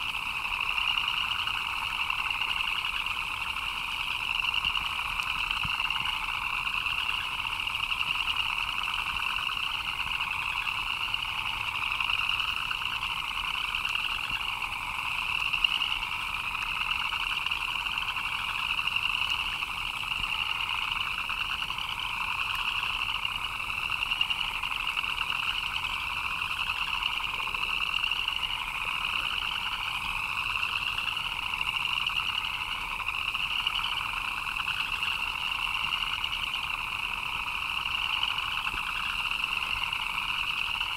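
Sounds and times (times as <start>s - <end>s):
frogs chirping in chorus: 0.0s - 40.9s.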